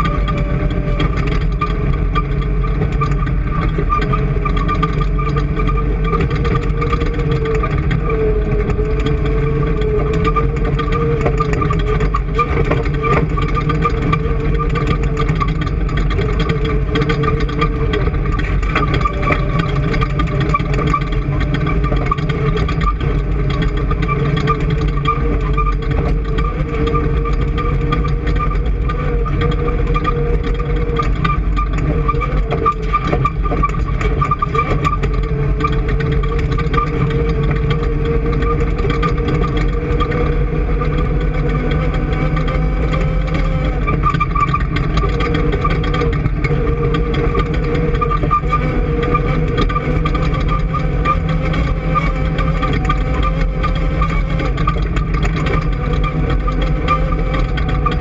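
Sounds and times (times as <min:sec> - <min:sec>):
engine droning steadily: 0:00.0 - 0:58.0.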